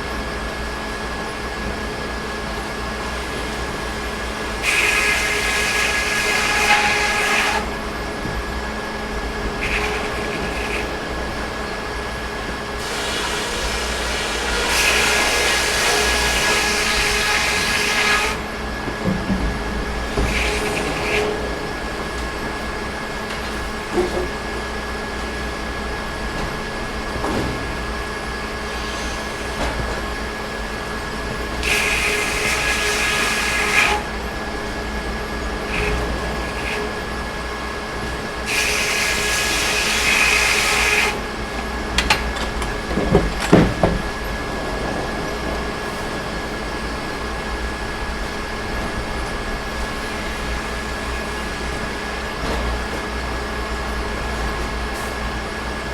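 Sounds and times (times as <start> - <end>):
sawmill machinery humming: 0.0 - 55.9.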